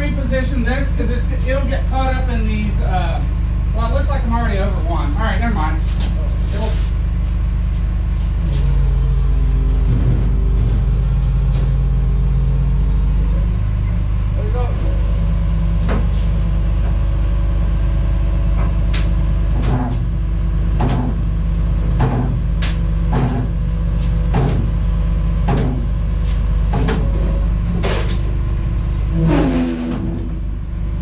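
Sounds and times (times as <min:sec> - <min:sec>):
machine low drone: 0:00.0 - 0:31.0.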